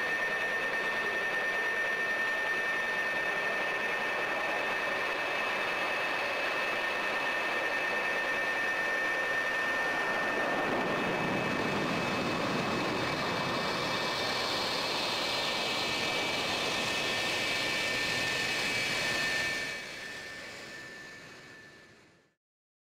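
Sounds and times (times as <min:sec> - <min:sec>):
jet engines running: 0:00.0 - 0:22.2.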